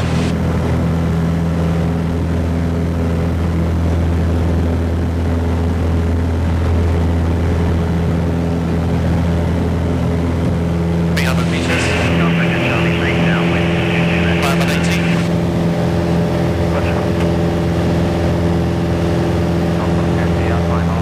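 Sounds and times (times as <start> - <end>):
aircraft engine and propeller drone: 0.0 - 21.0.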